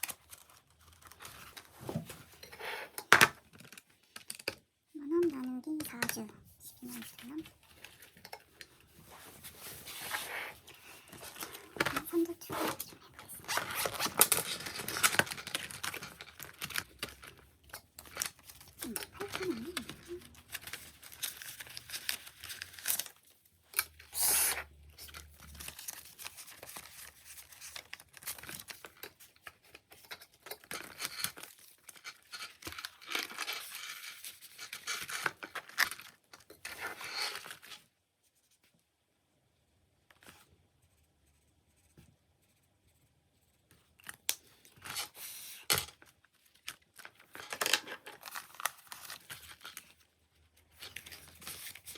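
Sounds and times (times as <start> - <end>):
paper and plastic rustling: 0.0 - 38.8, 43.7 - 51.9.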